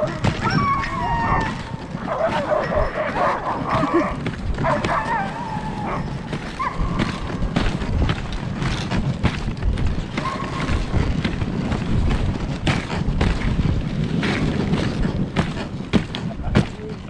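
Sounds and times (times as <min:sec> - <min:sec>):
dog sled low rumble: 0:00.0 - 0:17.0
sled knocking and thumping: 0:00.0 - 0:17.0.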